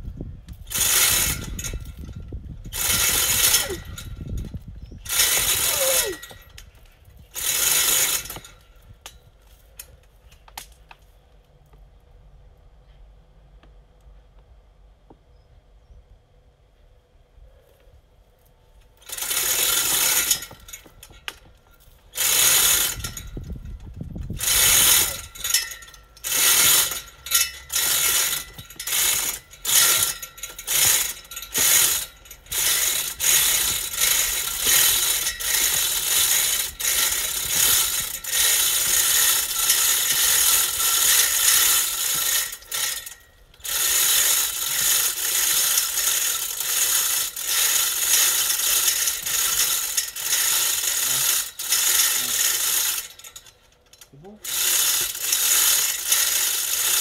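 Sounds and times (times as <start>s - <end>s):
hoist chain rattling: 0.6s - 10.0s, 19.0s - 57.0s.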